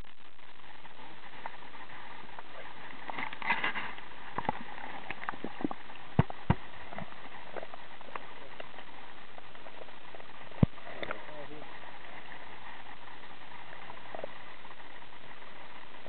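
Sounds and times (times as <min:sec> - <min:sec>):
short crackle: 0:00.0 - 0:16.0.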